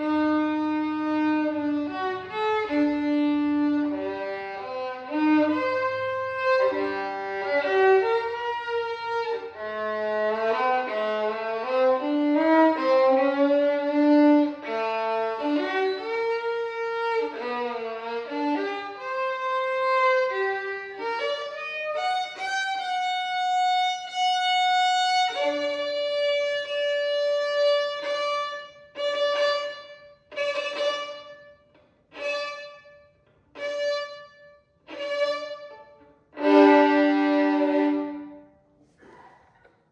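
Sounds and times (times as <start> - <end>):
violin playing a waltz: 0.0 - 38.6.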